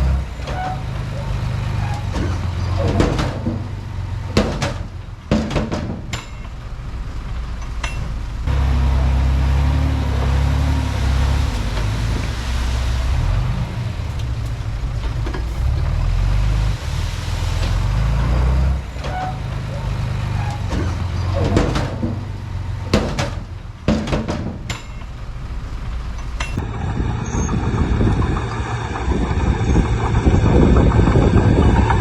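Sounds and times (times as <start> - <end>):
bulldozer engine under load: 0.0 - 32.0
clatter: 0.0 - 32.0.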